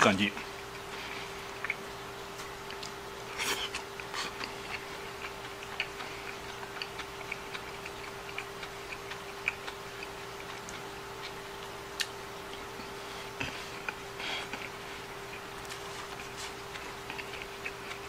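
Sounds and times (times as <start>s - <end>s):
chewing crisp vegetables: 0.0s - 18.0s
faint hum: 0.0s - 18.0s.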